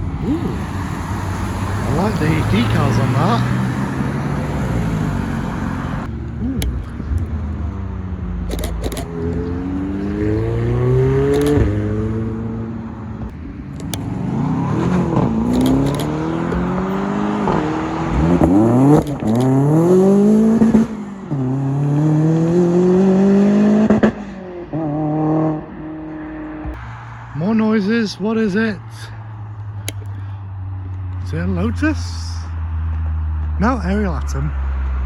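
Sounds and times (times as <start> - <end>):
sports car engine accelerating: 0.0 - 35.0.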